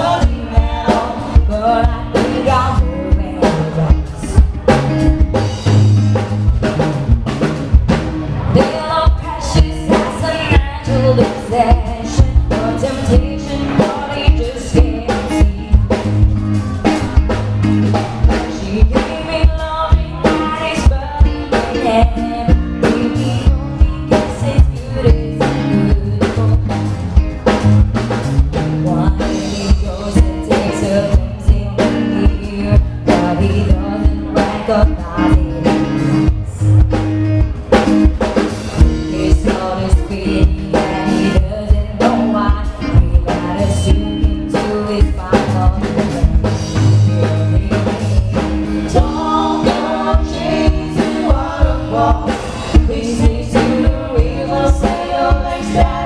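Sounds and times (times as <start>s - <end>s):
person singing: 0.0s - 5.0s, 8.4s - 17.3s, 17.9s - 27.0s, 28.8s - 36.8s, 38.8s - 56.0s
bass and guitar: 0.0s - 56.0s
drum kit beat: 0.0s - 56.0s.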